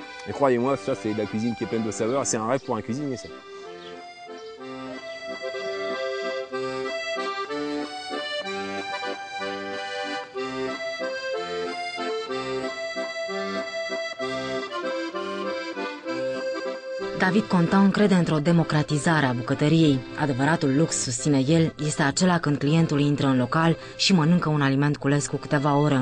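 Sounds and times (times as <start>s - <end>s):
accordion chords: 0.0s - 26.0s.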